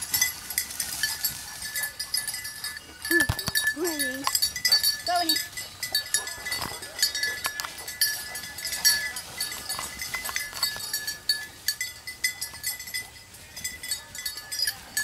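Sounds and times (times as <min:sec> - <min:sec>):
dog collar bell jingling: 0:00.0 - 0:15.0.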